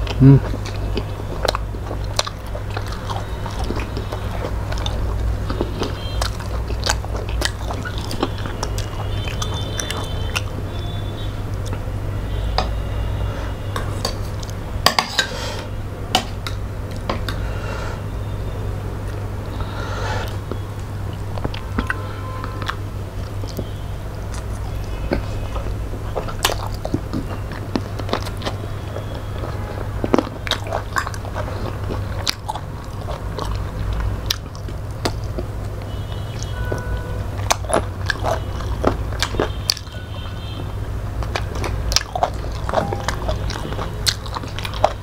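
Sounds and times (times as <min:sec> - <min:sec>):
people chewing: 0:00.0 - 0:18.4, 0:19.0 - 0:45.0.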